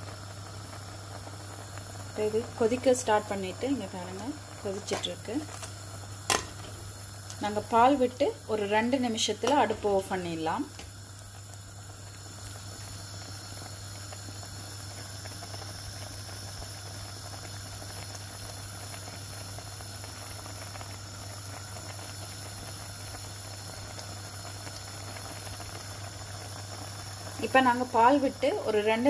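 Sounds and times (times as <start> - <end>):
curry bubbling in a pot: 0.0 - 29.0
steady low hum: 0.0 - 29.0.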